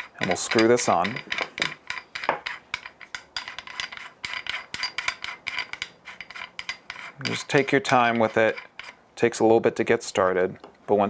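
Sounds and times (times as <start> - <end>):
plastic ring clicking and scraping: 0.0 - 9.0.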